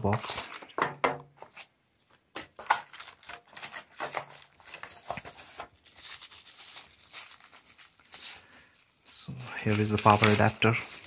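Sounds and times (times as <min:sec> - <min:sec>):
cardboard and plastic rustling: 0:00.0 - 0:11.0.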